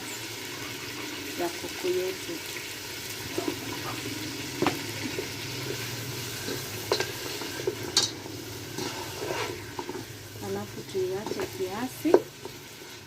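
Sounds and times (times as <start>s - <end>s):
chicken sizzling in sauce: 0.0s - 13.0s.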